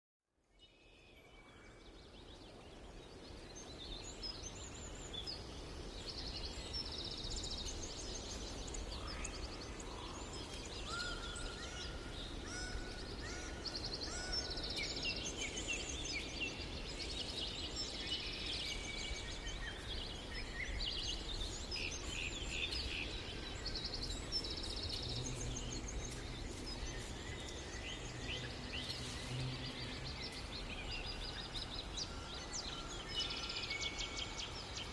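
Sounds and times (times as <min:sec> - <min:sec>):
birds singing and calling: 0:00.6 - 0:34.9.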